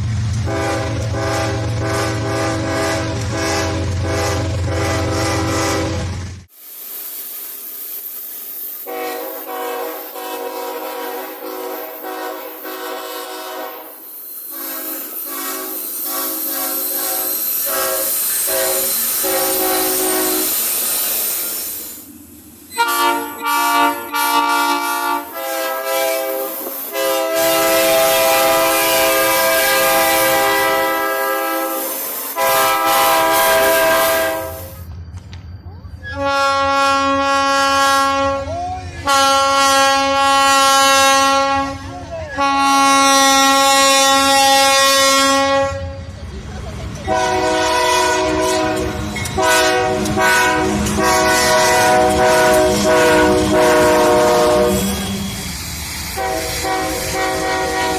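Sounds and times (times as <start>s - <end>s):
locomotive air horn blasts: 0.4s - 6.1s, 8.8s - 20.6s, 22.7s - 34.8s, 36.2s - 46.1s, 47.1s - 55.4s, 56.2s - 57.9s.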